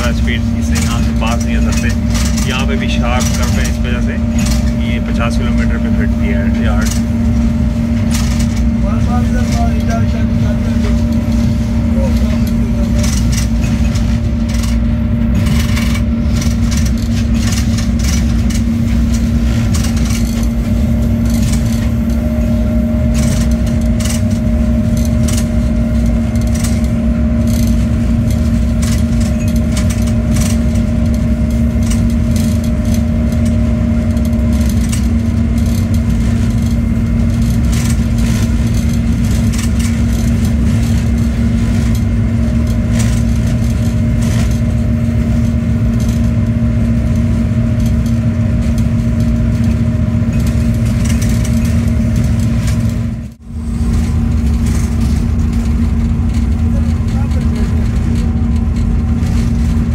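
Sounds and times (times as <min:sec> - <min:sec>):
clicks and rattles: 0:00.0 - 0:59.9
locomotive engine hum: 0:00.0 - 0:59.9
wheels rumbling on rail: 0:00.0 - 0:59.9.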